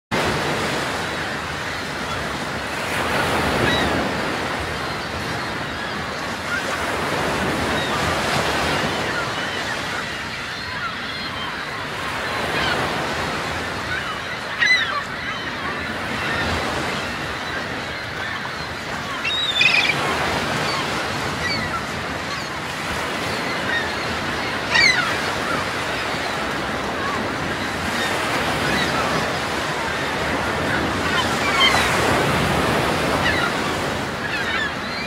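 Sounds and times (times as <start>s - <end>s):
sea waves washing: 0.1s - 35.0s
gulls calling: 0.2s - 35.0s.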